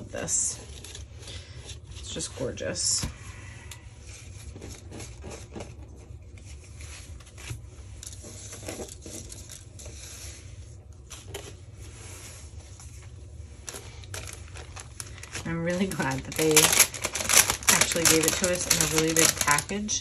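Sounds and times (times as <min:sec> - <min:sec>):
cardstock rustling and crinkling: 0:04.0 - 0:20.0.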